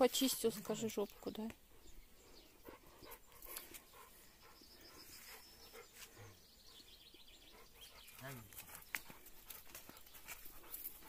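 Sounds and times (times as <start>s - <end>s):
faint dog sounds: 0.0s - 11.0s.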